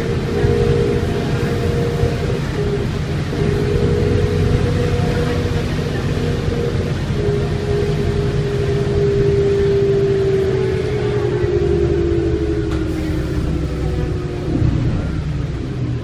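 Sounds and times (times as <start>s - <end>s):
diesel bus engine rumble: 0.0s - 16.0s
steady whine falling in pitch: 0.0s - 16.0s.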